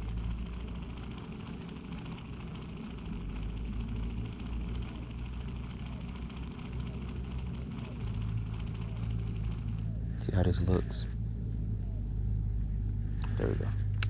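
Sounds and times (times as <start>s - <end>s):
high insect buzz: 0.0s - 14.0s
low mechanical hum: 0.0s - 14.0s.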